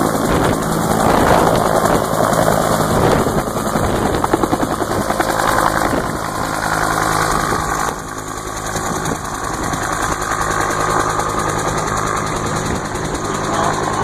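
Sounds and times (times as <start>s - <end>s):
helicopter rotor beating: 0.0s - 14.0s.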